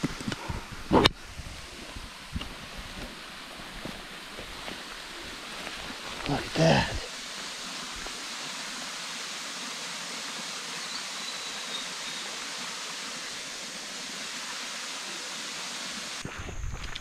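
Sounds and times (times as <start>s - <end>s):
waterfall rushing: 2.6s - 16.3s.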